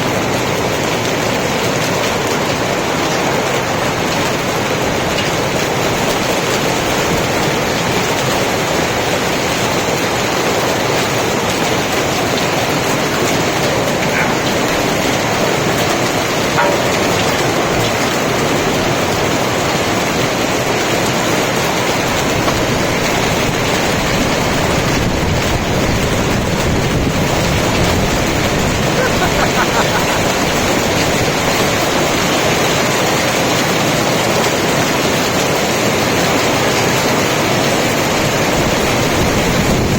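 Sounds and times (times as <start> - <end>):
hail and heavy rain: 0.0 - 39.9.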